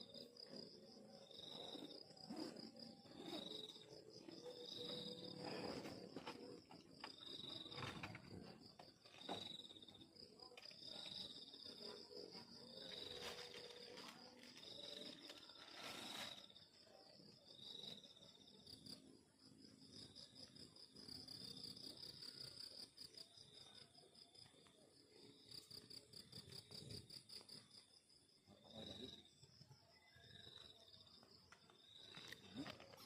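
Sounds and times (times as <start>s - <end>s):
cricket trilling: 0.0s - 24.5s, 25.2s - 33.0s
cricket chirping: 0.0s - 33.0s.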